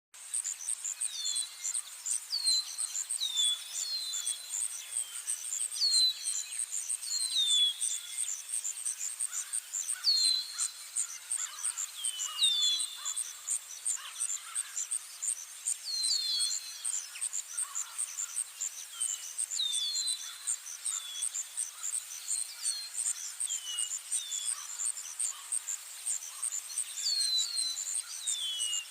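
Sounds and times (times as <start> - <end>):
crickets chirping: 0.2 - 28.9.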